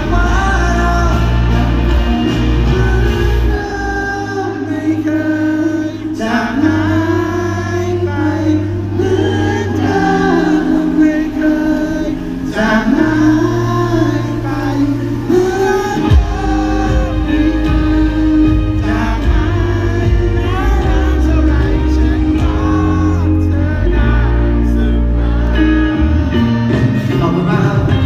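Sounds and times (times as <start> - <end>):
pop-rock band playing live: 0.0 - 28.0
voices singing together: 0.0 - 28.0.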